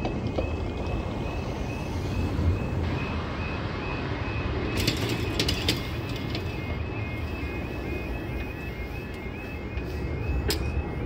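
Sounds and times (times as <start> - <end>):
level crossing alarm tone: 0.0 - 11.0.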